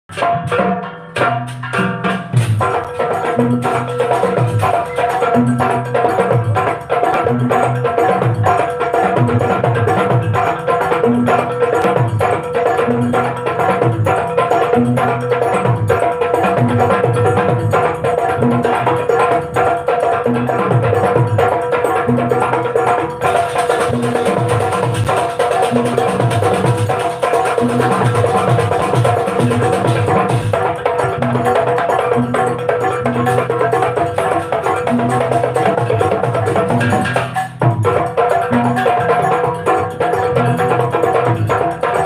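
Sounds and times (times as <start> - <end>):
hand drums playing fast rhythm: 0.1 - 42.0.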